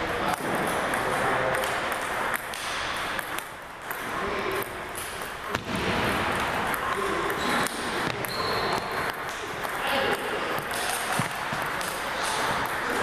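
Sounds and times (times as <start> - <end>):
table tennis ball hits: 0.2 - 13.0.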